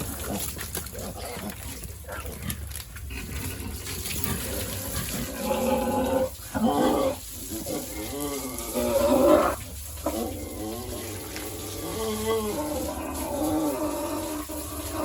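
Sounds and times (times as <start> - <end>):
pigs calling: 0.0 - 15.0.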